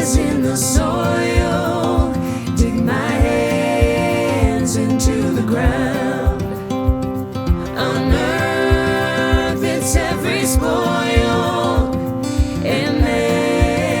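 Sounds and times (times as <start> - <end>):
person singing with vibrato: 0.0 - 14.0
steady drum beat: 0.0 - 14.0.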